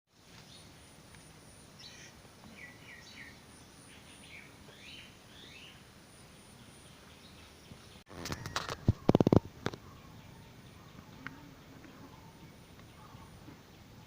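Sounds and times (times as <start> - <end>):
low steady background noise: 0.1 - 14.0
birds chirping: 0.3 - 14.0.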